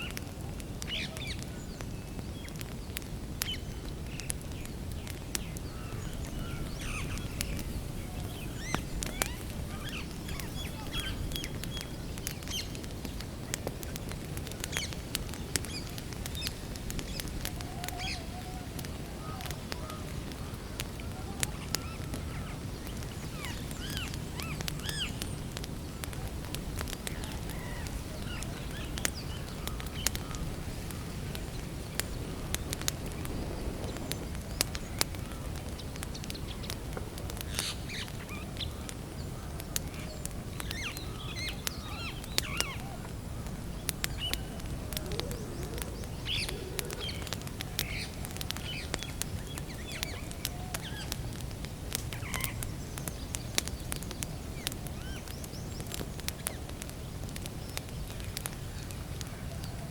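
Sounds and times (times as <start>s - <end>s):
campfire crackling and popping: 0.0s - 59.9s
small birds chirping: 0.0s - 59.9s.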